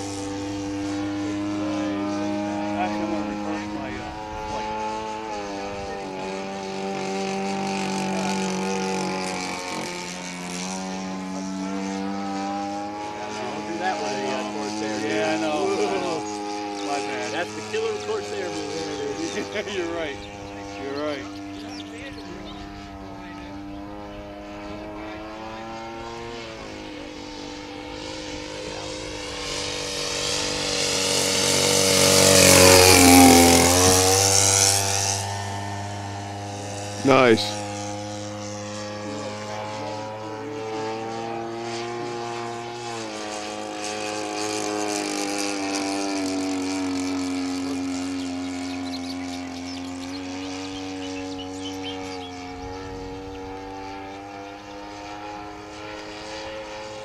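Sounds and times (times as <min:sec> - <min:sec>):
model plane engine drone: 0:00.0 - 0:57.0.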